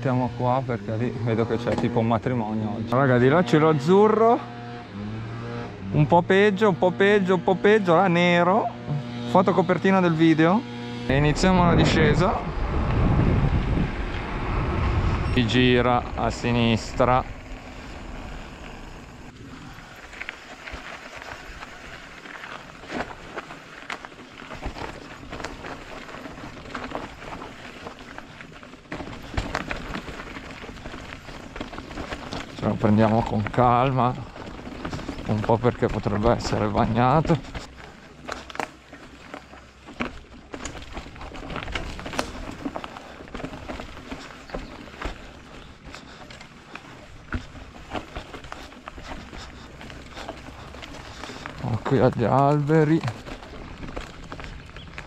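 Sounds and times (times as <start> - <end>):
bike knocking and rattling: 0.0 - 5.0, 14.1 - 55.0
tyres crunching over dirt and stones: 0.0 - 12.6, 13.5 - 55.0.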